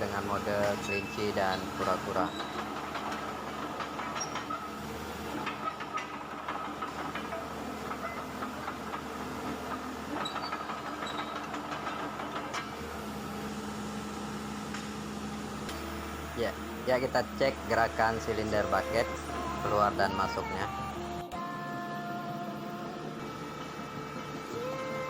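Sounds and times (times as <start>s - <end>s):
diesel engine and hydraulic whine: 0.0s - 25.0s
steel tracks clanking: 0.0s - 25.0s.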